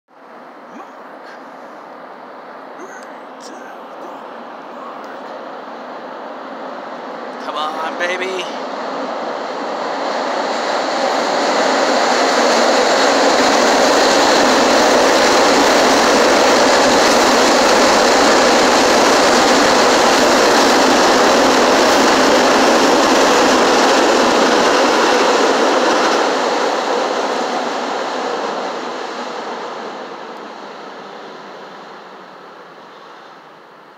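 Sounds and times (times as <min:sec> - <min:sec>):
elevated train rumbling past: 0:00.1 - 0:33.9.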